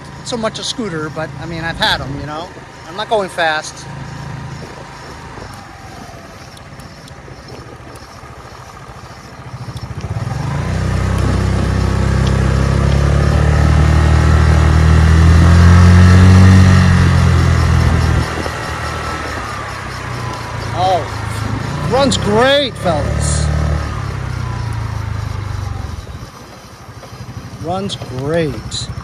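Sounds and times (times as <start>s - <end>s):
scooter engine accelerating: 0.0s - 29.0s.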